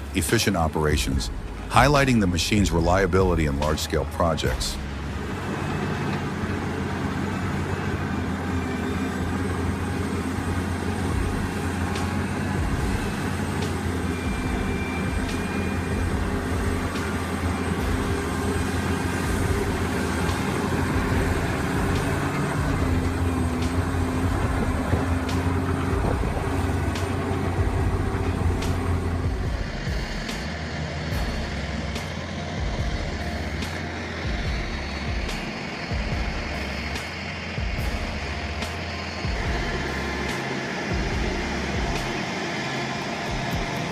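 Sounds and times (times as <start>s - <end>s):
large diesel engine running: 0.0s - 43.9s.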